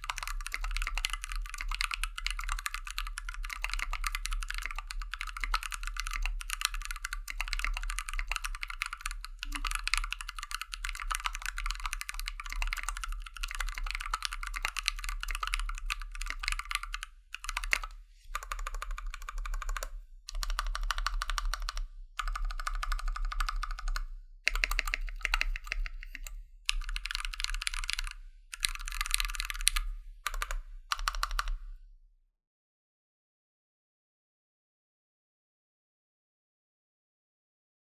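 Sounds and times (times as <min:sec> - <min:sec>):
typing on mechanical keyboard: 0:00.0 - 0:31.6.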